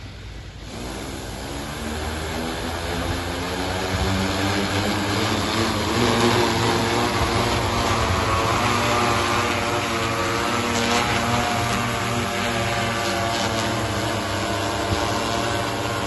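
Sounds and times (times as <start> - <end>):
drone rotors humming: 0.0 - 16.0.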